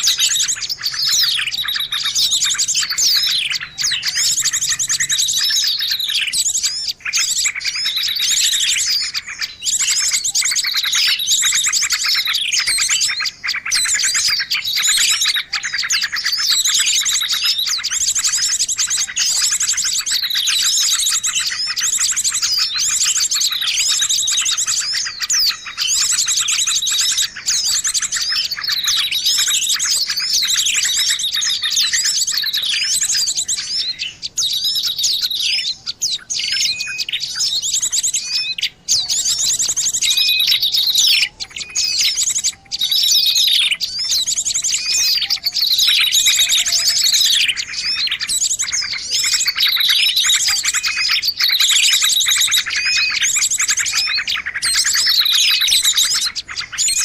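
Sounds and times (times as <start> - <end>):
birds chirping and trilling: 0.0 - 57.0
downward sweeping bird calls: 0.0 - 57.0.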